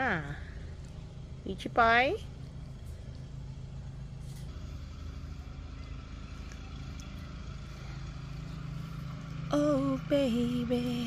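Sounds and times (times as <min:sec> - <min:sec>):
lawn mower engine droning: 0:00.0 - 0:11.0.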